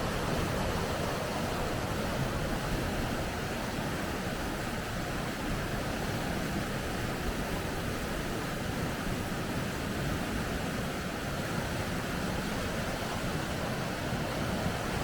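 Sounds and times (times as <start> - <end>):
water rushing over rapids: 0.0 - 15.0.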